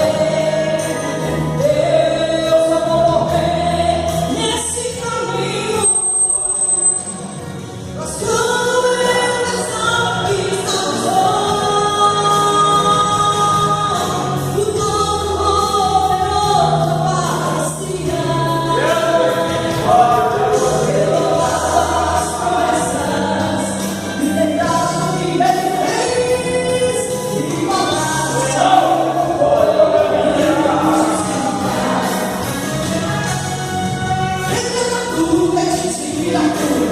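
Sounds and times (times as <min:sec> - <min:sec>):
gospel song with choir: 0:00.0 - 0:36.9.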